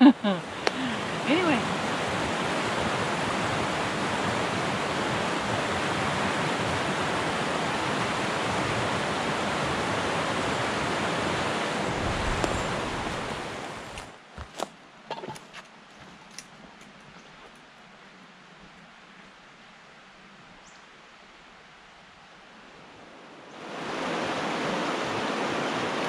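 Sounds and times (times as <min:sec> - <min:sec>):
river rushing: 0:00.0 - 0:14.3, 0:17.9 - 0:26.0.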